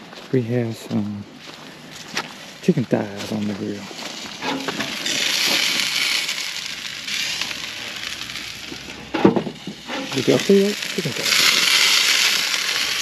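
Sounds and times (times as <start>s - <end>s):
meat sizzling on a grill: 1.4s - 13.0s.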